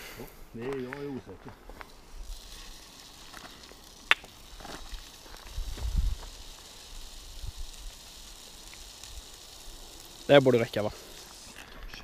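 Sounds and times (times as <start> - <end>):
liquid pouring with faint hiss: 1.8 - 11.6.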